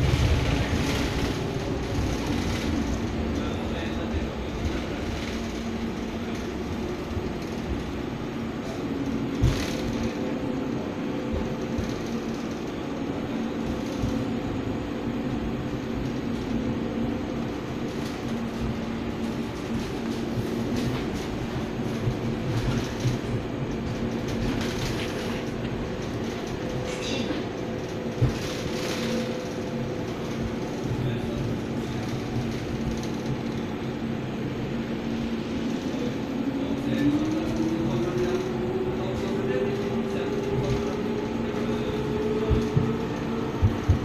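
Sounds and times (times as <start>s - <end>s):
tram wheels rumbling on rails: 0.0s - 44.0s.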